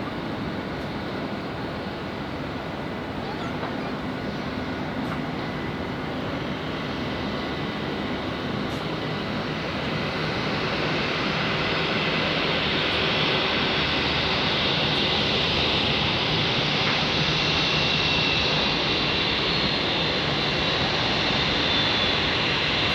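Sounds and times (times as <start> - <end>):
jet engines rushing and whining: 0.0 - 22.9.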